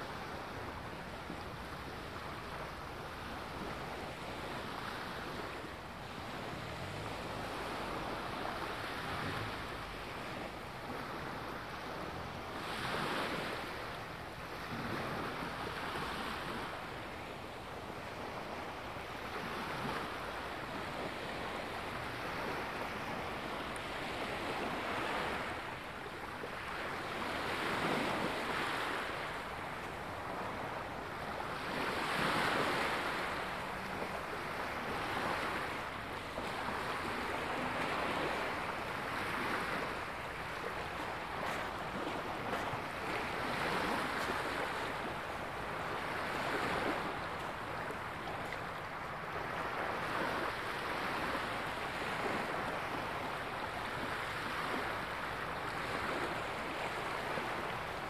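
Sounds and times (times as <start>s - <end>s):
small waves lapping on sand: 0.0s - 58.0s.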